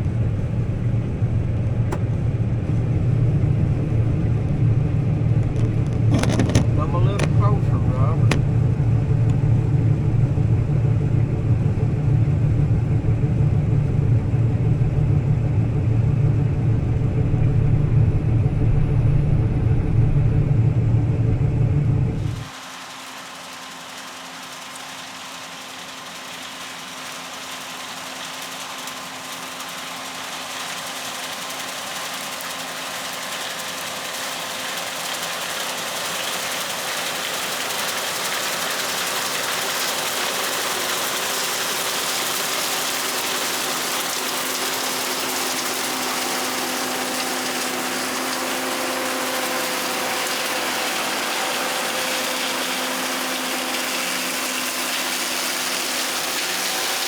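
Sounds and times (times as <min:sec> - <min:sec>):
combine harvester hum and rattle: 0:00.0 - 0:57.0.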